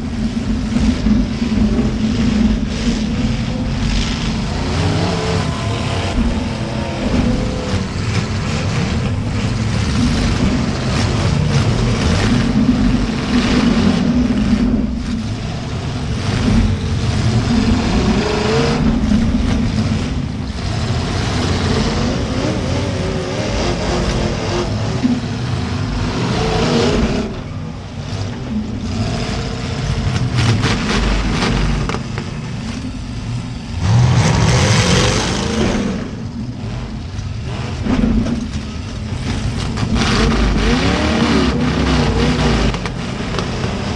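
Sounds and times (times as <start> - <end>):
engines revving: 0.0 - 43.9.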